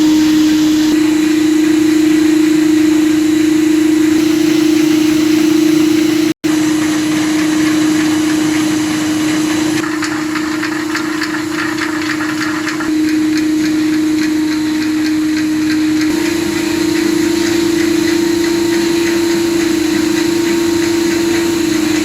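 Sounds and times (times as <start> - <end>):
machine motor hum: 0.0 - 22.0
rapid machinery clicking: 4.2 - 22.0.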